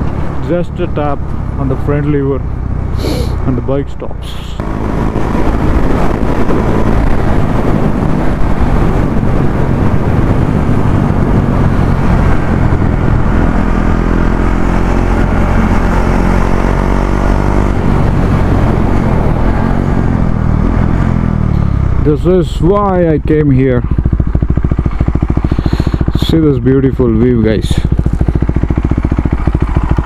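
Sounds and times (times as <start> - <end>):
motorcycle engine running: 0.0 - 3.6, 4.2 - 30.0.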